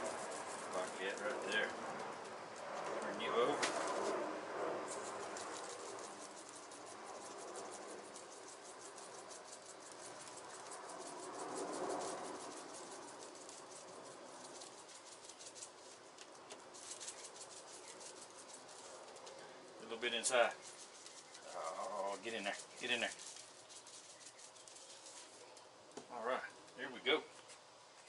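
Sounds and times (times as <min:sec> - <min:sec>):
hands rubbing seasoning into chicken: 0:00.0 - 0:02.4, 0:04.8 - 0:25.7.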